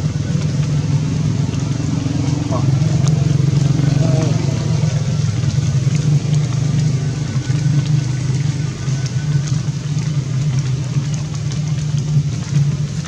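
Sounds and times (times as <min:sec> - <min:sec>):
loud low drone: 0:00.0 - 0:12.8.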